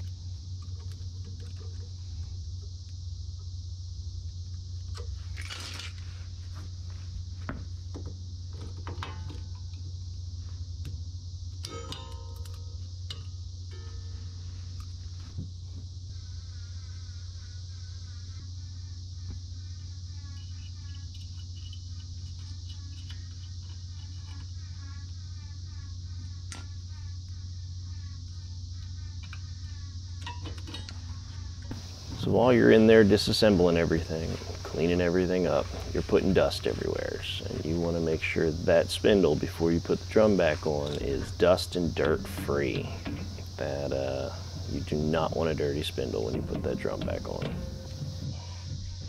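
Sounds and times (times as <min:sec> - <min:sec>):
cicada chorus: 0:00.0 - 0:49.0
low hum: 0:00.0 - 0:49.0.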